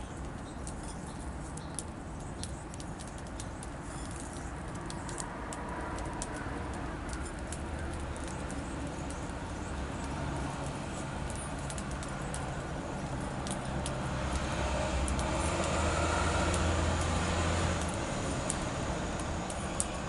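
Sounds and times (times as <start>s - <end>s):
passing motor vehicle rumble: 3.0s - 20.0s.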